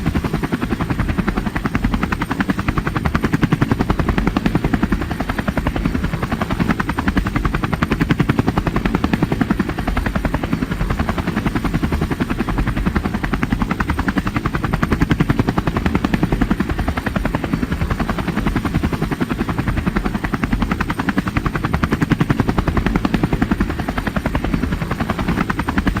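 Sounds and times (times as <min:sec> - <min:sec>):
helicopter rotor chopping: 0:00.0 - 0:26.0.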